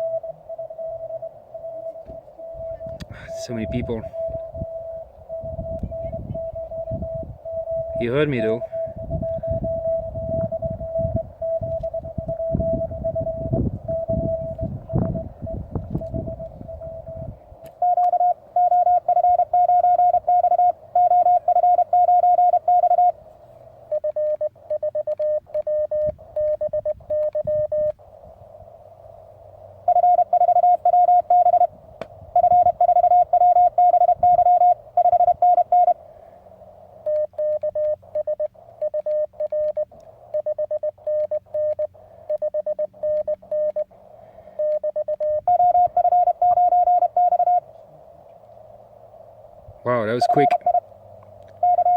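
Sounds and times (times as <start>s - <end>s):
lower quieter morse beeps: 0.0s - 51.9s
morse code beeps: 0.0s - 51.9s
receiver hiss: 0.0s - 51.9s.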